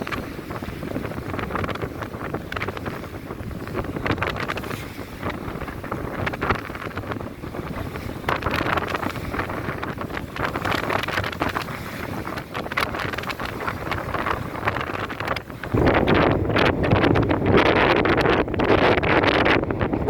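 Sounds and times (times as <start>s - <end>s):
rough sea water rushing: 0.0s - 20.0s
water splashing surges: 0.0s - 20.0s
wind buffeting microphone: 0.0s - 20.0s.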